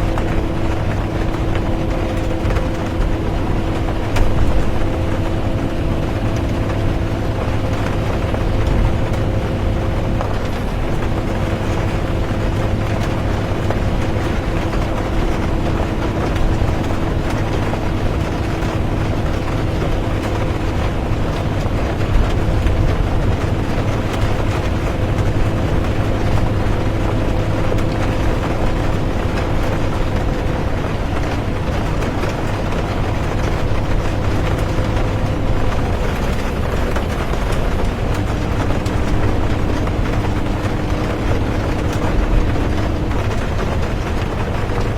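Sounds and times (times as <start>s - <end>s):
bus engine and road rumble: 0.0s - 44.9s.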